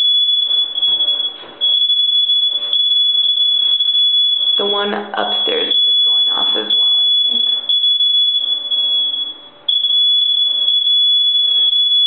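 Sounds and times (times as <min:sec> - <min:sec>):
high-pitched electronic beep: 0:00.0 - 0:12.0.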